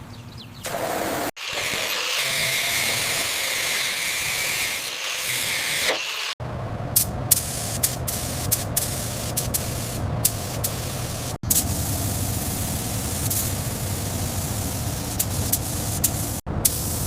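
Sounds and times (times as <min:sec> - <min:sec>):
spraying hiss: 0:00.6 - 0:06.4, 0:07.0 - 0:17.0.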